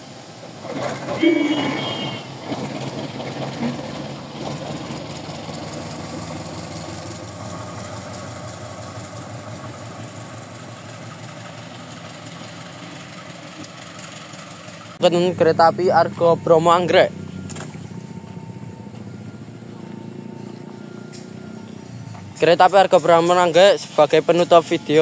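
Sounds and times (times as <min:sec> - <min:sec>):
diesel locomotive engine humming: 0:00.0 - 0:25.0.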